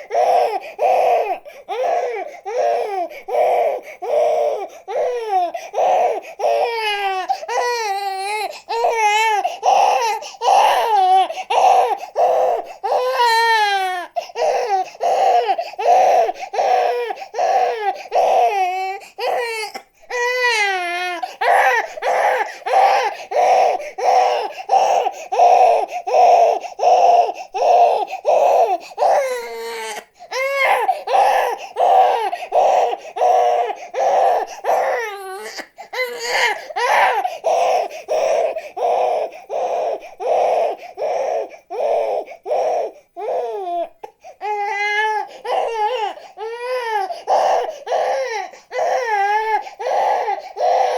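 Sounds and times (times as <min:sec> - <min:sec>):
infant crying: 0:00.0 - 0:50.9.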